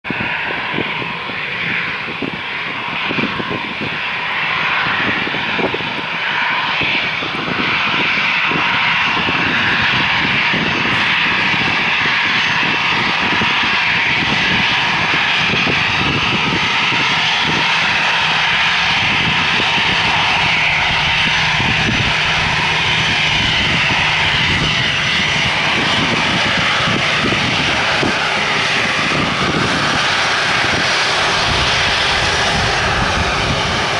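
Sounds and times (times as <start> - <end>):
jet engines taxiing: 0.0 - 33.9.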